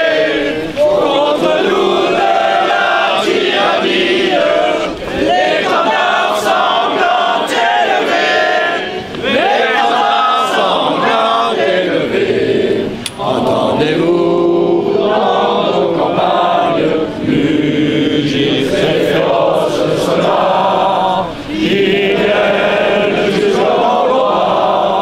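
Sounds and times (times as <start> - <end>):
large crowd singing in unison: 0.0 - 25.0.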